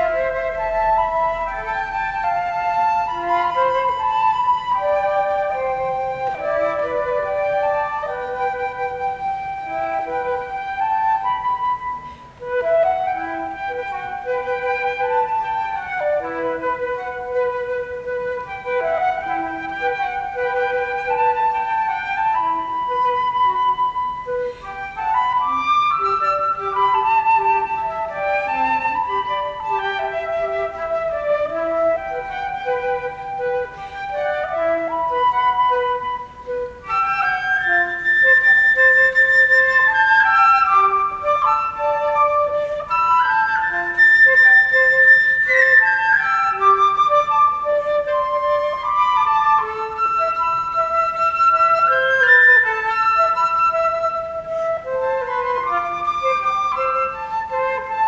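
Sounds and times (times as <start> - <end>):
flute duet: 0.0 - 58.0.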